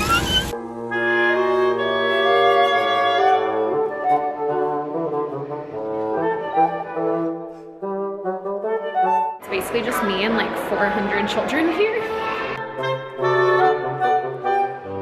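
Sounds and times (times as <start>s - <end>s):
brass-like held chords: 0.4s - 15.0s.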